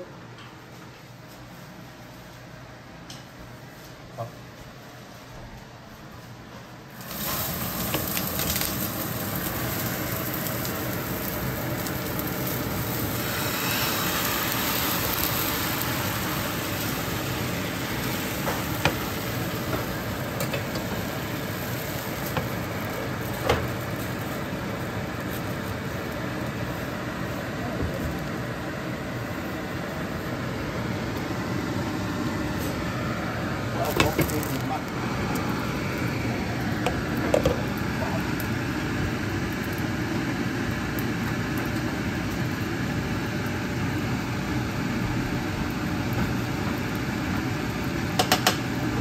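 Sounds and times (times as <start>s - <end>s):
batter sizzling in a frying pan: 6.9s - 49.0s.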